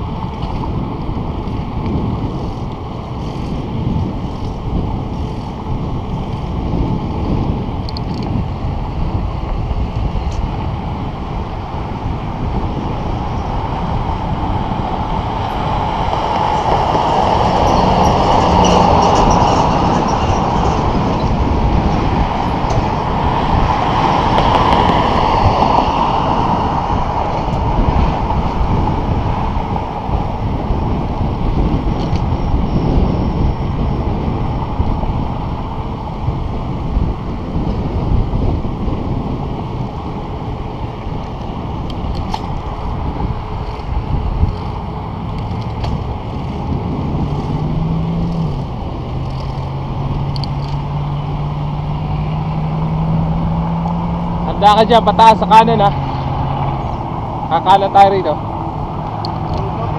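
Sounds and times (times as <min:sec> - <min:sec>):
car passing: 0:00.0 - 0:59.9
road and tyre rumble: 0:00.0 - 0:59.9
wind on microphone: 0:00.0 - 0:59.9.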